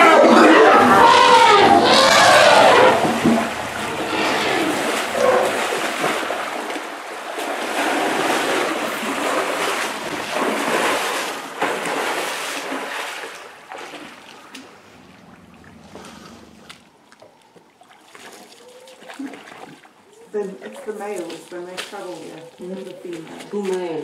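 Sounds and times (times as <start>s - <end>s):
muddy water sloshing and splashing: 0.7s - 24.0s.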